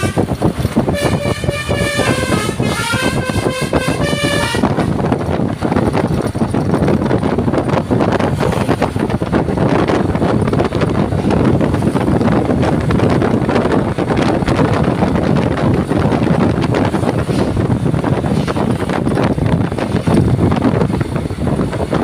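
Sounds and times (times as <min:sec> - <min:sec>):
low rumble of road traffic: 0:00.0 - 0:22.0
wind buffeting microphone: 0:00.0 - 0:22.0.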